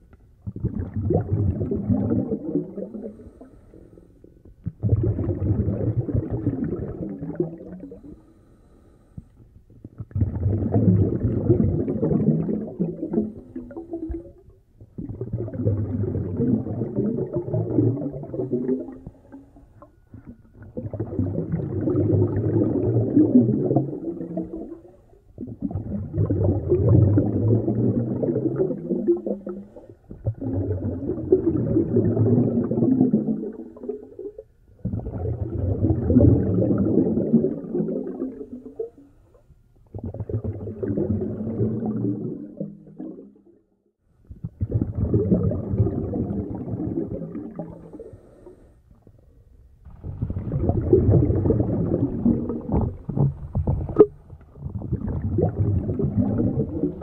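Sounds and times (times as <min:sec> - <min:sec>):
underwater regulator bubbles: 0:00.0 - 0:43.5, 0:44.3 - 0:49.2, 0:49.9 - 0:57.0.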